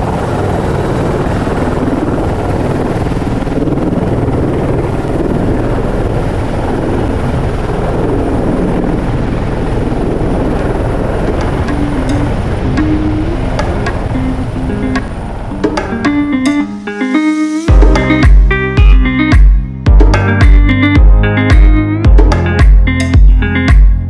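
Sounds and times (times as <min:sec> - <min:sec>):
helicopter running on ground: 0:00.0 - 0:24.0.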